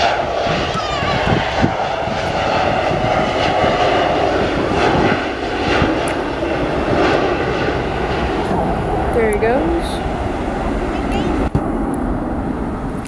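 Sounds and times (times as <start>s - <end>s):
jet engines roaring at takeoff: 0.0s - 13.0s.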